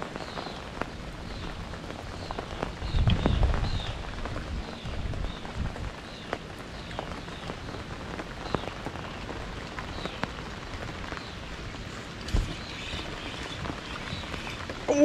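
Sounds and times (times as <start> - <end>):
sharp taps of raindrops: 0.0 - 14.9
steady rain falling: 0.0 - 15.0.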